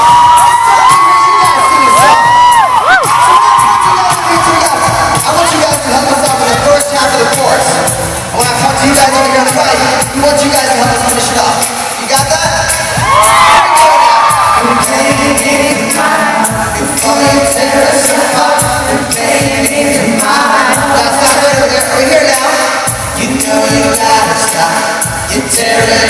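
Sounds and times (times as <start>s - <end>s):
band playing: 0.0s - 26.0s
steady drum beat: 0.0s - 26.0s
vocal group singing in harmony: 0.0s - 26.0s.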